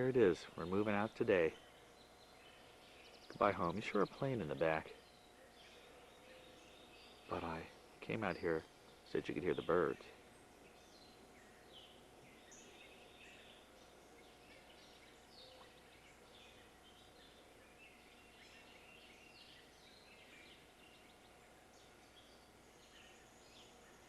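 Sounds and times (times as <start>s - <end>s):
birds chirping: 0.0s - 24.0s
steady background hiss: 0.0s - 24.0s.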